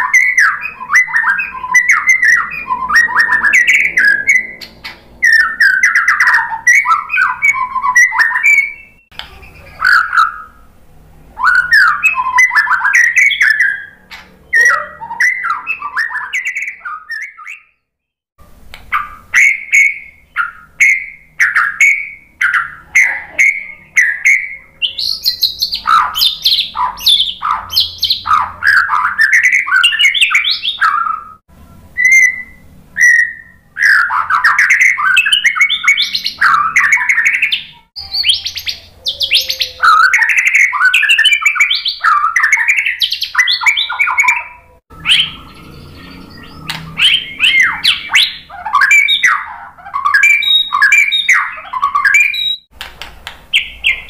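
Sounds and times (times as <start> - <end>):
bird singing whistled phrases: 0.0 - 10.6, 11.4 - 17.8, 18.9 - 31.4, 32.0 - 52.7, 53.5 - 54.0.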